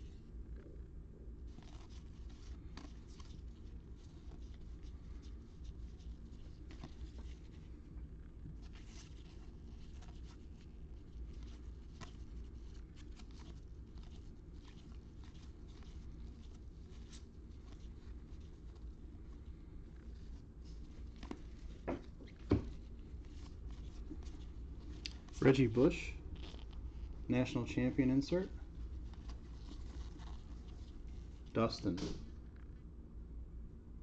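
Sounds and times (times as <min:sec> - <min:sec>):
low steady hum: 0:00.0 - 0:34.0
trading cards being shuffled: 0:01.5 - 0:07.8, 0:08.6 - 0:32.7.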